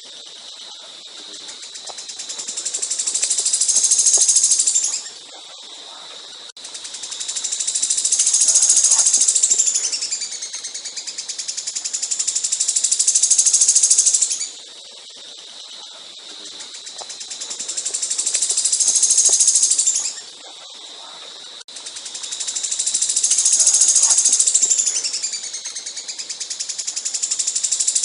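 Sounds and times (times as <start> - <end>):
songbird buzzing trills: 0.0 - 28.0.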